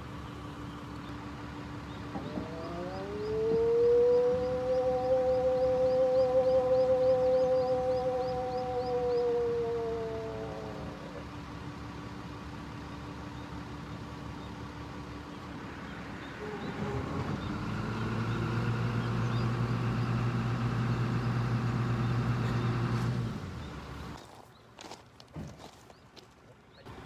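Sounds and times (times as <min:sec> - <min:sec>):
vehicle engine running: 0:00.0 - 0:24.2.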